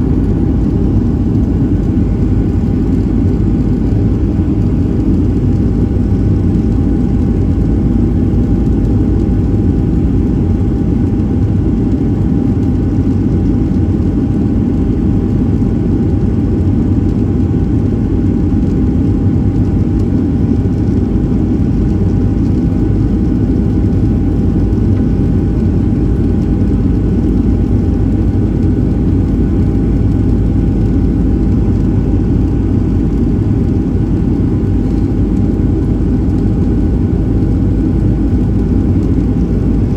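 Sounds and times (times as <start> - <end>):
airplane cabin engine rumble: 0.0 - 39.9
constant high whine: 0.0 - 39.9.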